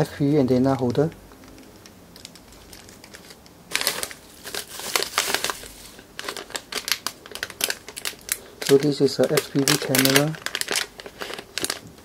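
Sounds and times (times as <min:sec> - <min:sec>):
plastic bag crinkling: 0:02.1 - 0:12.0.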